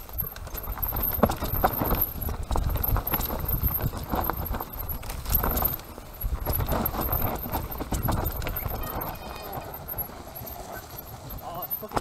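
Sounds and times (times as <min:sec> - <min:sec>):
bike frame and chain rattling: 0:00.0 - 0:12.0
bike tyres rumbling on dirt: 0:00.0 - 0:12.0.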